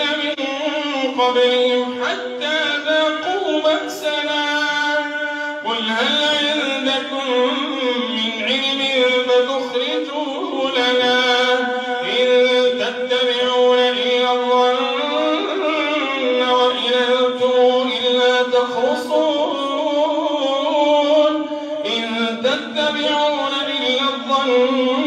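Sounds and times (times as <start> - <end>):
man chanting recitation: 0.0 - 25.0.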